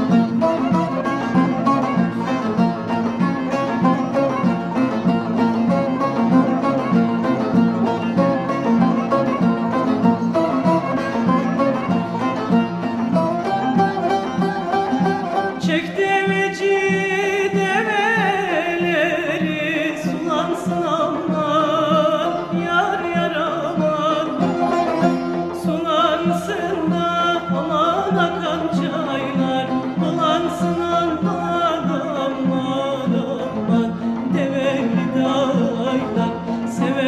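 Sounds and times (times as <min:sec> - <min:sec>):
ornamented folk melody: 0:00.0 - 0:37.0
string instruments accompaniment: 0:00.0 - 0:37.0.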